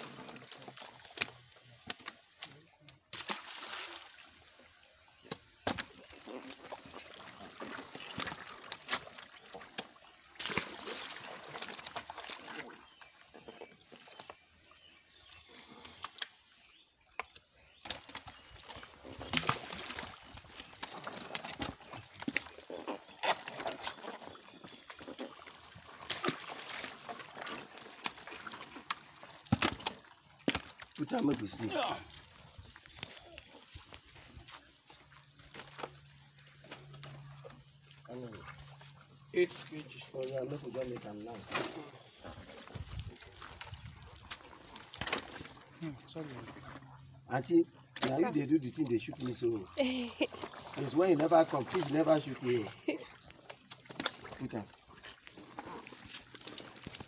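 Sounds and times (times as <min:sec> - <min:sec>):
fish splashing in water: 0:00.0 - 0:14.4, 0:15.5 - 0:39.9, 0:40.8 - 0:47.2, 0:50.2 - 0:57.0.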